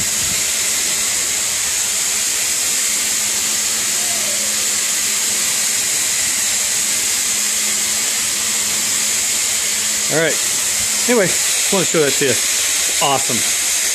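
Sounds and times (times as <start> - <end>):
motor hum: 0.0 - 13.9
spray hissing: 0.0 - 13.9.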